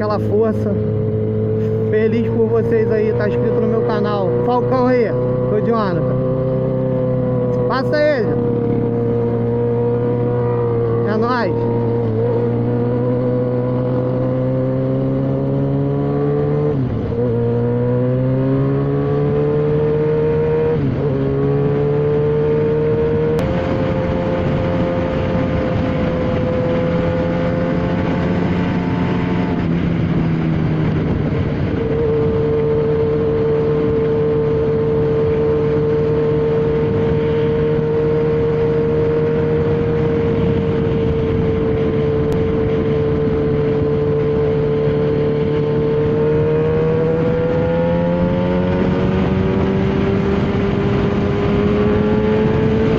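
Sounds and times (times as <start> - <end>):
motorcycle engine revving: 0.0 - 52.9
motorcycle gear changes: 4.3 - 52.9.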